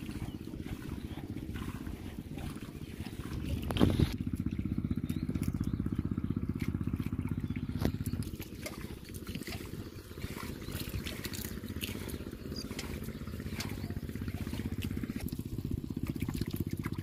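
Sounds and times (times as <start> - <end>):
water pump engine chugging: 0.0 - 17.0.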